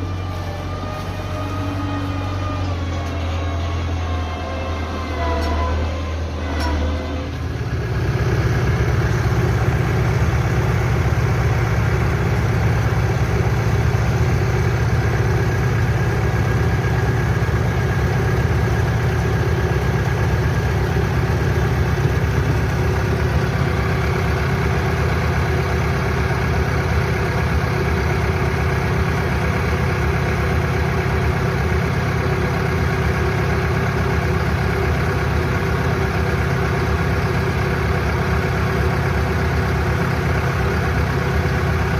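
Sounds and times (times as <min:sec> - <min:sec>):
farm machine engine idling: 0:00.0 - 0:41.9.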